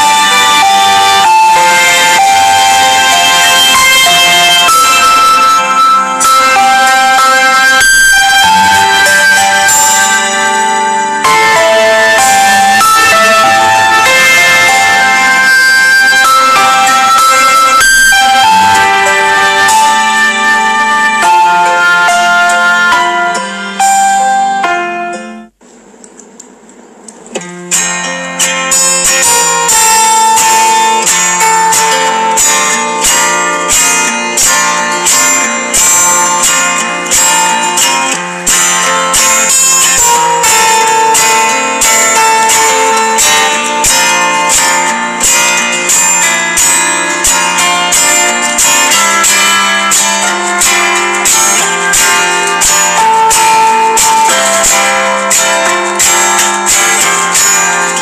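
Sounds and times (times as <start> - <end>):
strummed acoustic guitar music: 0.0 - 58.0.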